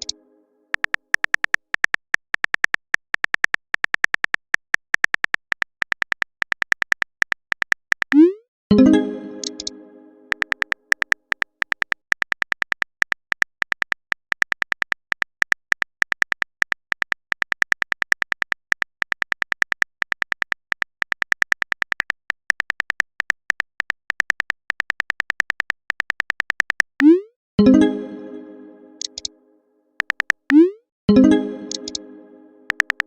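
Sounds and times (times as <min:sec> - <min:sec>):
synthetic keyboard typing clicks: 0:00.0 - 0:29.3, 0:30.0 - 0:33.0.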